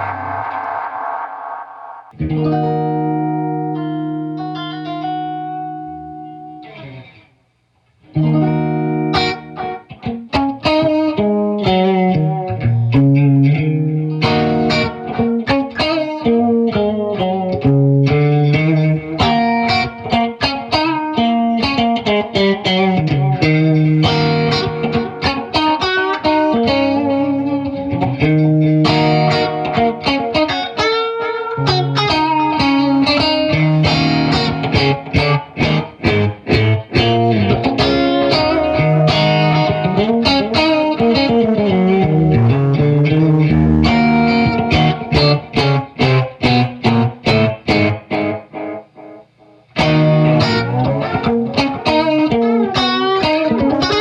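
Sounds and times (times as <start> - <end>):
electric guitar with delay: 0.0 - 7.2, 8.0 - 54.0.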